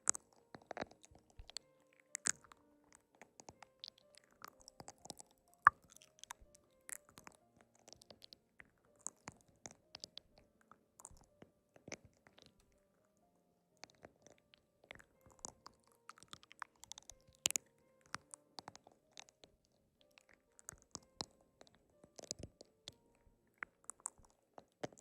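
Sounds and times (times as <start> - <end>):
chewing crunches: 0.0 - 10.4, 11.0 - 12.8, 13.8 - 25.0
faint background music: 0.0 - 25.0.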